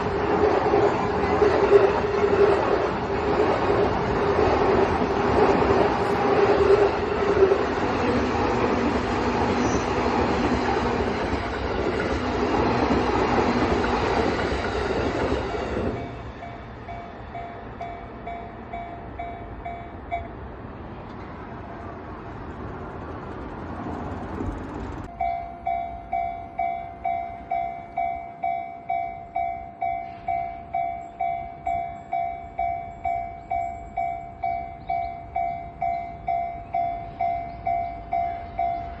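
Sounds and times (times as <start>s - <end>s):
crossing warning bell ringing: 0.0s - 20.5s, 25.0s - 39.0s
train rumbling past: 0.0s - 39.0s.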